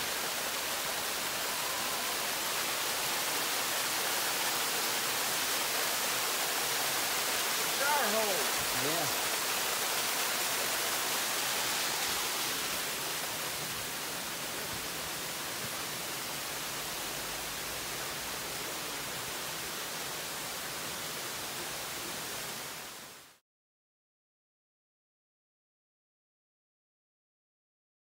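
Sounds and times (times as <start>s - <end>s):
small waterfall splashing into pool: 0.0s - 23.4s.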